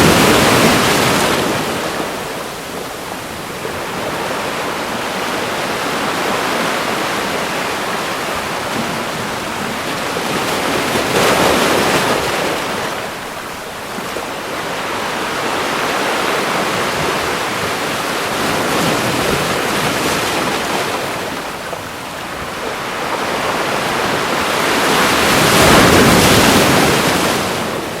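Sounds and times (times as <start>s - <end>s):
ocean waves breaking on shore: 0.0s - 28.0s.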